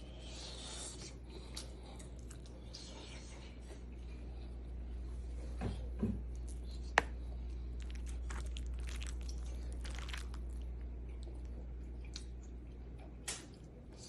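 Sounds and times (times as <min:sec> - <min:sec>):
low steady hum: 0:00.0 - 0:14.0
soft crunching and scraping of food: 0:00.0 - 0:14.0.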